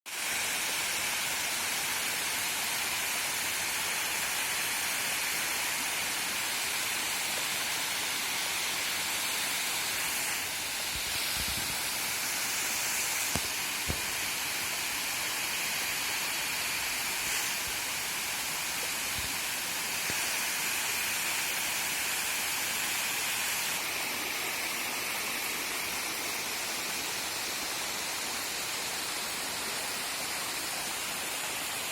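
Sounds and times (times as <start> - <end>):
rushing water: 0.1 - 31.9.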